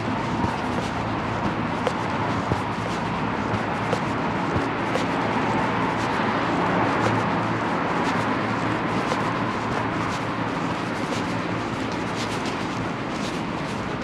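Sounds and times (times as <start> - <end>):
footsteps walking: 0.0 - 14.0
traffic noise: 0.0 - 14.0.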